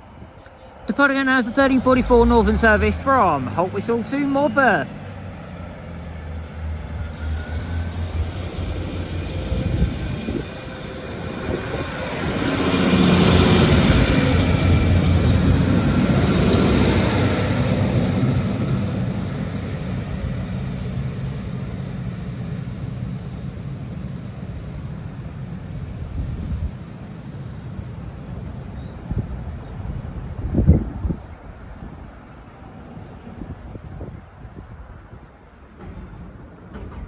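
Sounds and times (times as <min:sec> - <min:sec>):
diesel train engines: 0:00.0 - 0:37.0.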